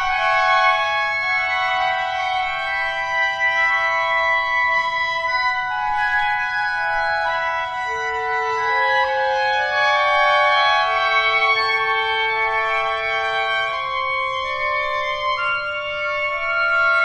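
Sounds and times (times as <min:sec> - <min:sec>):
clarinet ensemble holding chord: 0:00.0 - 0:17.0.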